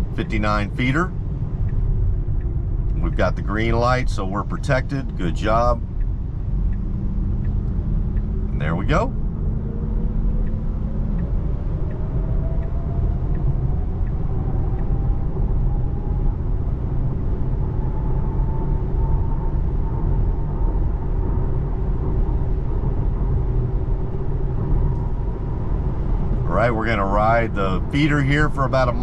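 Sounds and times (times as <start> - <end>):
road and tyre rumble: 0.0 - 29.0.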